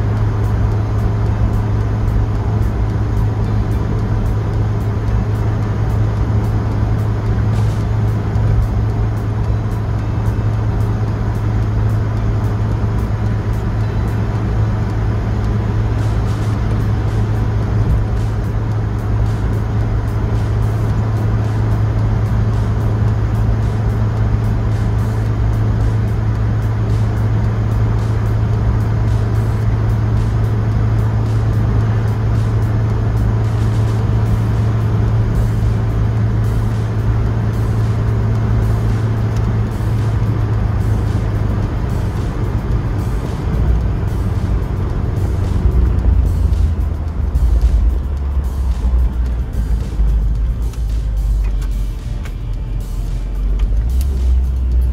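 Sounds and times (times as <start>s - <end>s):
car engine and road drone: 0.0s - 54.9s.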